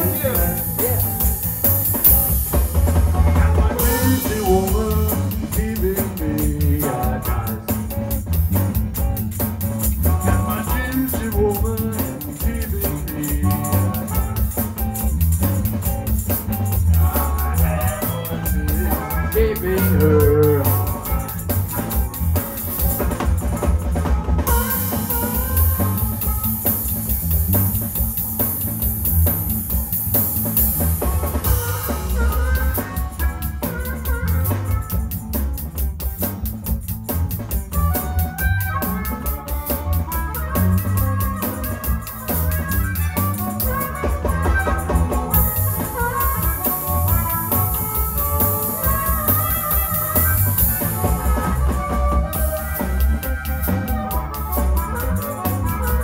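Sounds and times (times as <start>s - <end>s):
drum kit beat: 0.0s - 56.0s
electric blues band playing: 0.0s - 56.0s
guitar or harmonica lines: 0.0s - 56.0s.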